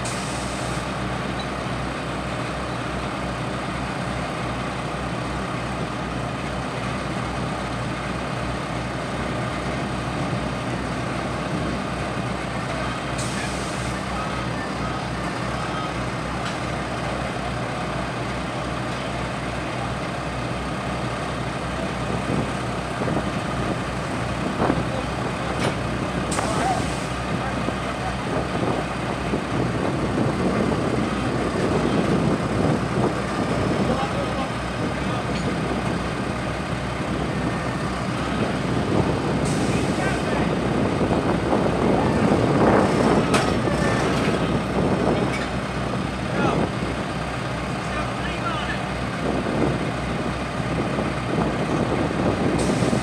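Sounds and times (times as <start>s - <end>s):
fire truck engine running: 0.0s - 53.0s.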